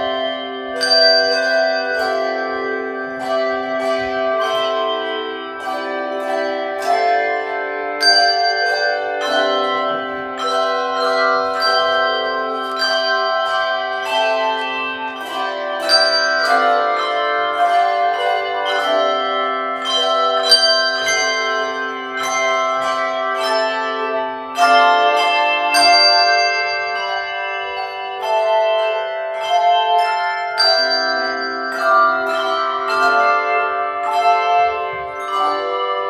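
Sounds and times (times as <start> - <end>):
handbell ensemble playing: 0.0 - 36.0.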